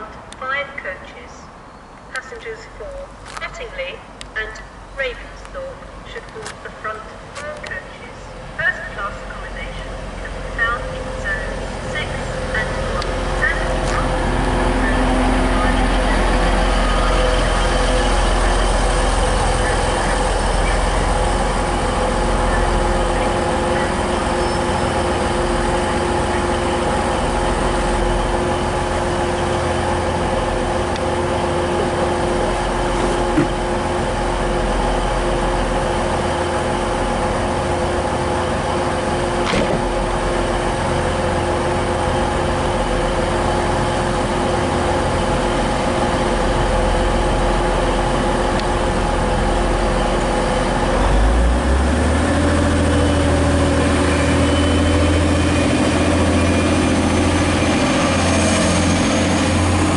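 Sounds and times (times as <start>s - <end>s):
train engines humming: 0.0s - 59.9s.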